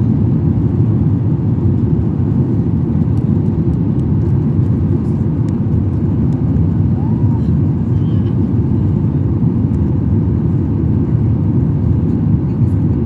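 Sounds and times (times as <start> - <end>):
aircraft engines rumbling: 0.0 - 13.0.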